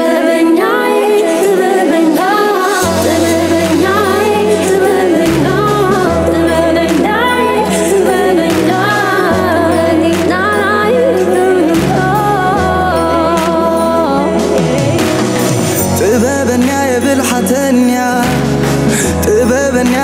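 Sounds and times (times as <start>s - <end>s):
amplified backing music: 0.0s - 20.0s
woman singing into a microphone: 0.0s - 20.0s
bass line: 2.8s - 20.0s.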